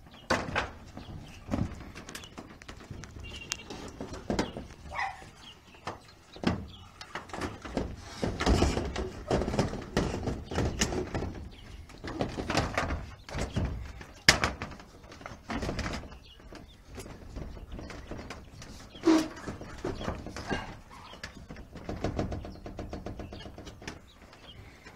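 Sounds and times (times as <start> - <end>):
knocks and scrapes on metal roof: 0.0 - 24.9.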